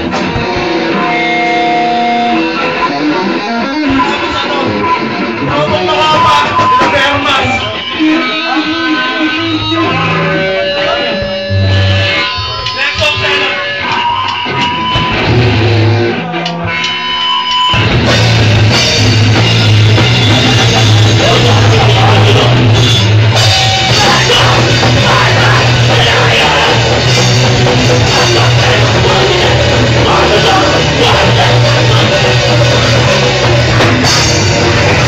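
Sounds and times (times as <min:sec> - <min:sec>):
live heavy rock band: 0:00.0 - 0:35.0.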